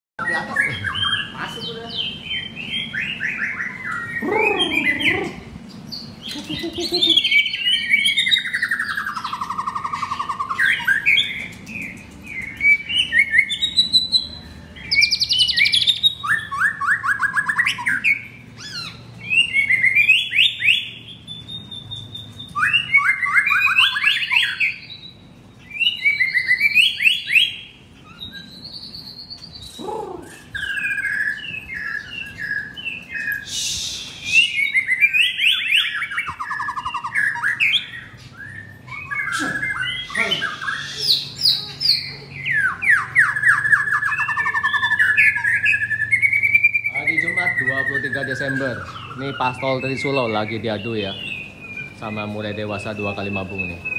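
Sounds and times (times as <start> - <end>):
bird singing trills and whistles: 0.2 - 53.9.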